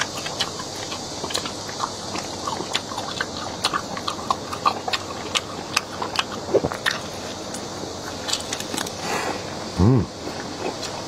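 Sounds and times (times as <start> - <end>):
person chewing meat: 0.0 - 11.0.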